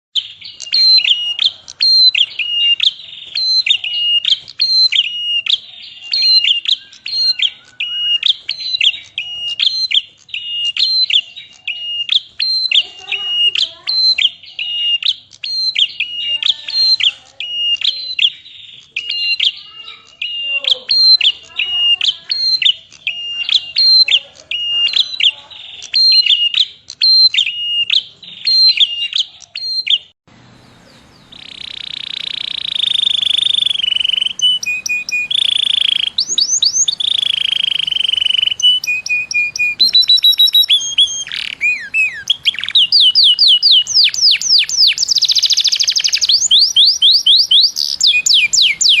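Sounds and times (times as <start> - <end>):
bird repeating sharp high notes: 0.2 - 30.1, 31.1 - 49.0
bird trills and sweeping notes: 0.2 - 49.0.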